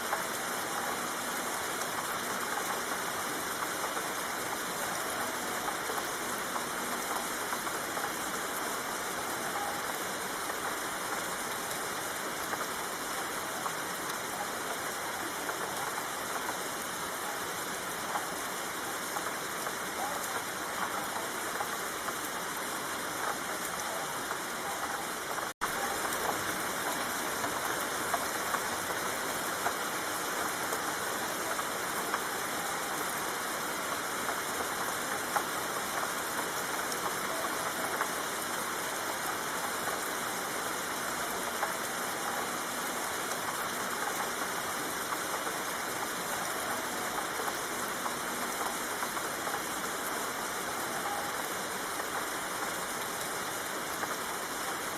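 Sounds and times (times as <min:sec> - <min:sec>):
raindrop ticks: 0:00.0 - 0:54.9
steady rainfall: 0:00.0 - 0:54.9.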